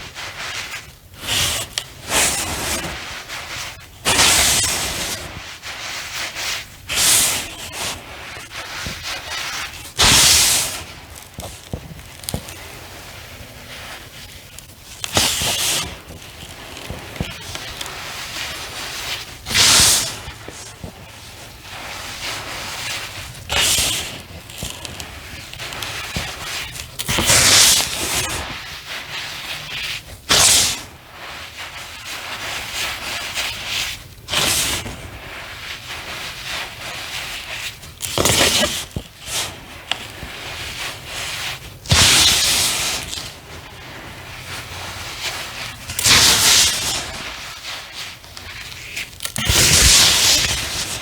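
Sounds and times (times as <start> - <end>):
quiet crumbling and rubbing: 0.1 - 51.0
cornstarch chunks crunching: 0.9 - 29.1, 32.1 - 51.0.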